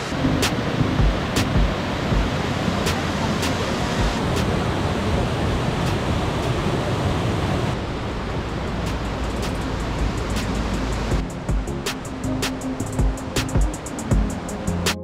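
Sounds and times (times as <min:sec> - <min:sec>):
stream rushing over rocks: 0:00.0 - 0:14.9.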